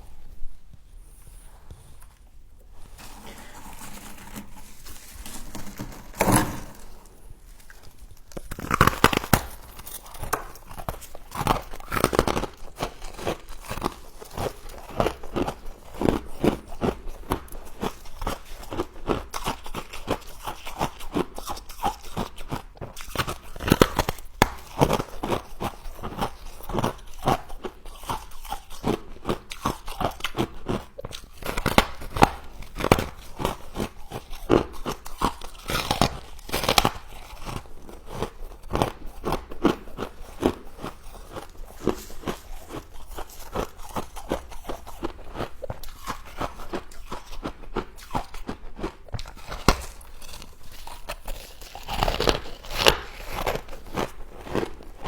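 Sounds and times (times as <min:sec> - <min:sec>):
frost crunching when chewed: 0:01.8 - 0:55.0.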